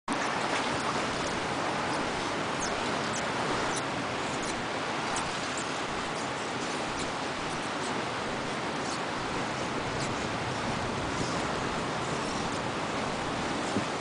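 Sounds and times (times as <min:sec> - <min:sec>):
ocean surf rushing: 0:00.1 - 0:14.0.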